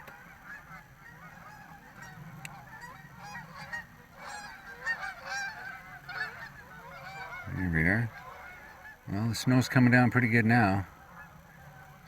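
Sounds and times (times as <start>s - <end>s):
birds calling: 0.0s - 12.0s
low steady hum: 0.0s - 12.0s.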